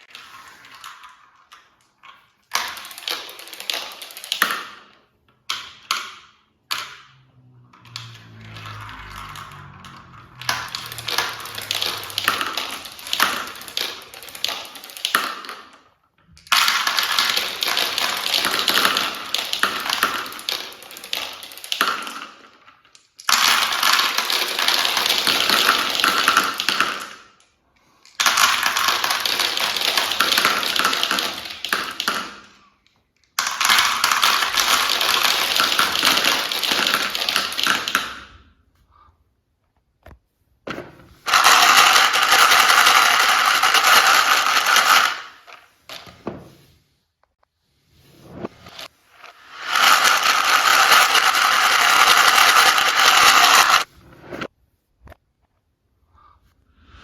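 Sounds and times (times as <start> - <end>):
marbles rattling down a track: 0.0 - 4.8, 5.5 - 27.4, 28.1 - 32.6, 33.4 - 38.3, 41.2 - 46.1, 48.7 - 53.9.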